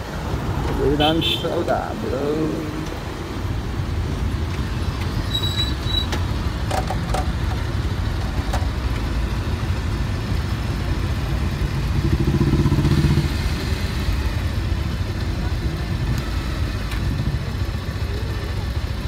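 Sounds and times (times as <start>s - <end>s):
motorcycle road and wind rumble: 0.0s - 19.0s.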